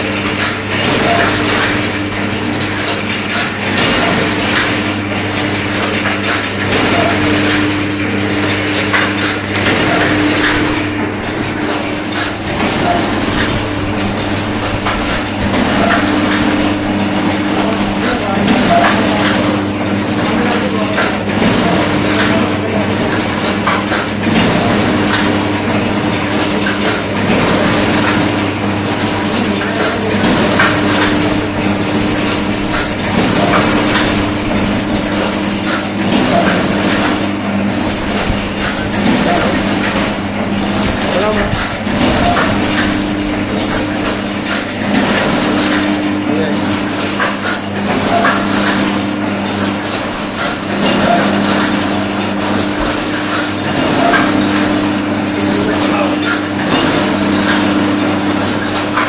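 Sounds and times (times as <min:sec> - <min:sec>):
machine motor hum: 0:00.0 - 0:59.0
pressing mechanism clatter: 0:00.1 - 0:59.0.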